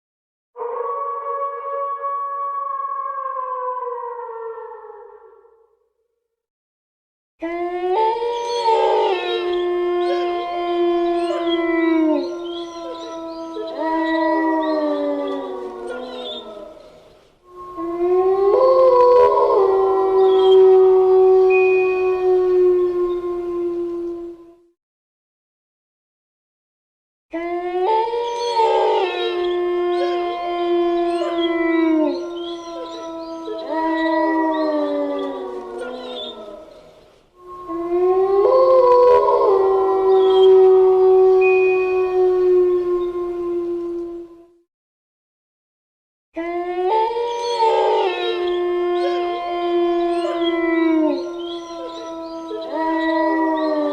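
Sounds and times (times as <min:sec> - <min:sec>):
wolves howling: 0:00.6 - 0:05.5, 0:07.4 - 0:24.6, 0:27.4 - 0:44.6, 0:46.4 - 0:53.9.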